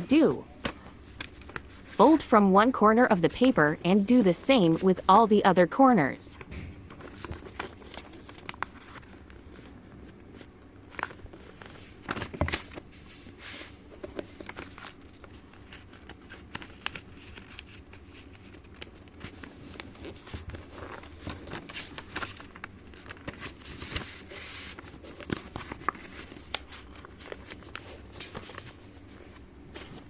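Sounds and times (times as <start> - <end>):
paper being folded: 0.7 - 2.2, 6.9 - 30.0.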